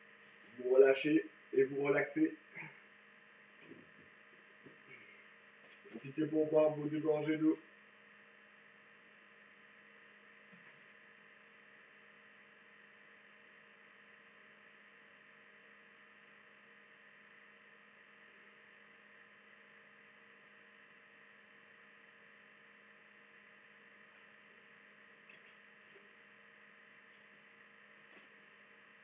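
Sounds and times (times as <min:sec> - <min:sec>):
faint electrical hum and hiss: 0:00.0 - 0:29.0.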